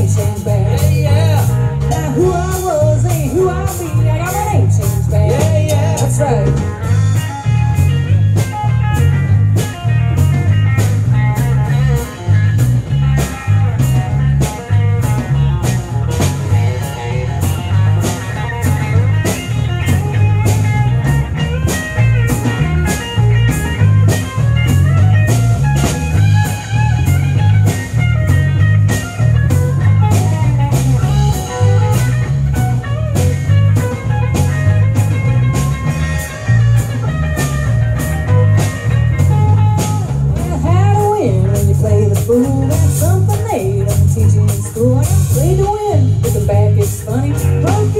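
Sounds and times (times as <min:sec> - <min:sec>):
bass guitar: 0:00.0 - 0:47.9
drum kit beat: 0:00.0 - 0:47.9
electric guitar: 0:00.0 - 0:47.9.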